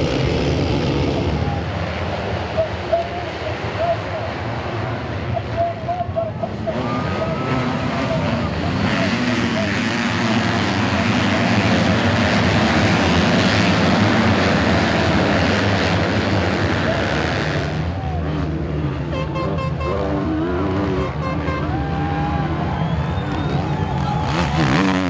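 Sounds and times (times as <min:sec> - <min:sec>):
motocross engines revving: 0:03.3 - 0:21.5, 0:22.4 - 0:25.0.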